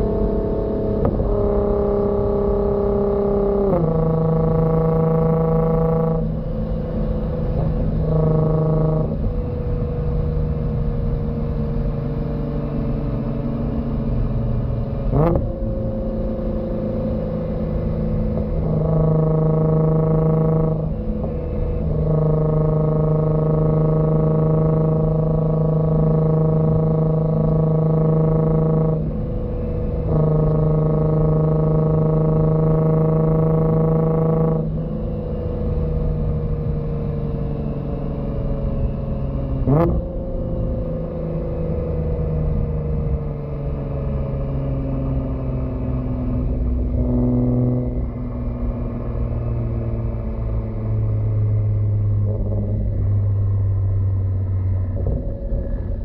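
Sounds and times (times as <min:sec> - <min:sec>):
car exhaust drone: 0:00.0 - 0:56.0.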